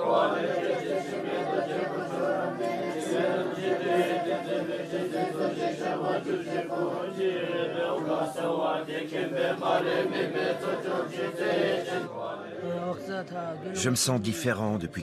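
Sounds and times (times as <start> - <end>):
monks chanting: 0.0 - 13.0.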